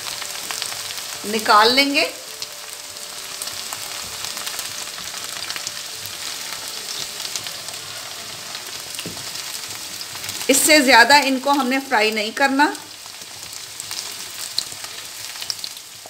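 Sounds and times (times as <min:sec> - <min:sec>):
okra sizzling in oil: 0:00.0 - 0:16.0.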